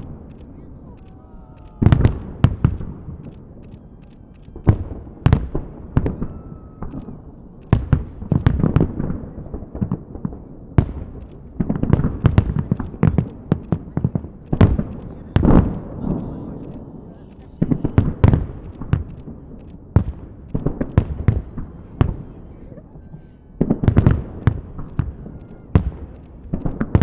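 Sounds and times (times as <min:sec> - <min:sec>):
fireworks bangs with echo: 0:00.0 - 0:22.5, 0:23.5 - 0:27.0.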